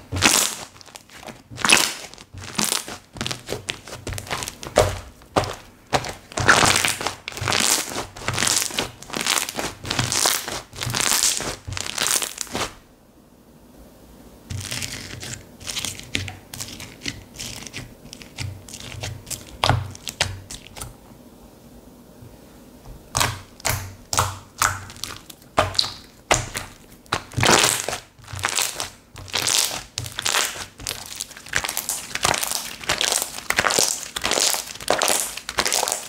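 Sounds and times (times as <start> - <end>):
slime crackling and popping: 0.0 - 12.8, 14.5 - 20.9, 23.1 - 36.0.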